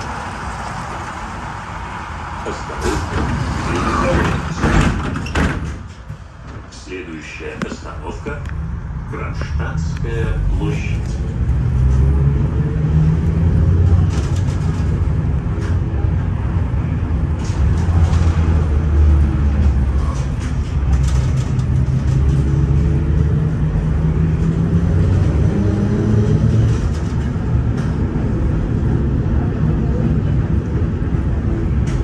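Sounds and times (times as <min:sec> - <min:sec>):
tram wheels rumbling: 0:00.0 - 0:32.0.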